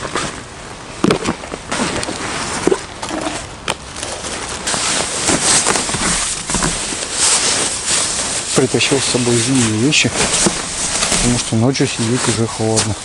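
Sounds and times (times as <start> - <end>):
fabric and clothes rustling: 1.2 - 13.0.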